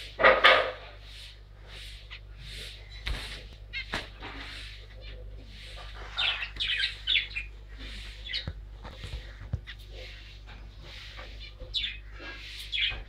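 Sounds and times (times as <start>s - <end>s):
finches chirping: 1.0s - 13.0s.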